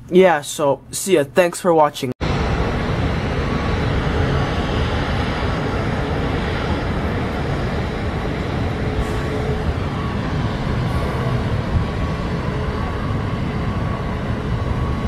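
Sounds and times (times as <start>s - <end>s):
faint steady whine: 2.2s - 15.0s
jet and ground-equipment noise: 2.2s - 15.0s.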